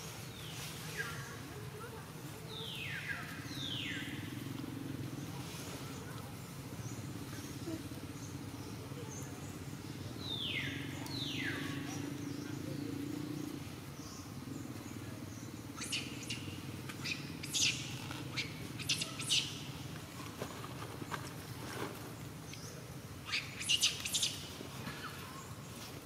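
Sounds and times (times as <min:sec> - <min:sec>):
steady low hum: 0:00.0 - 0:26.0
small birds chirping: 0:00.2 - 0:26.0.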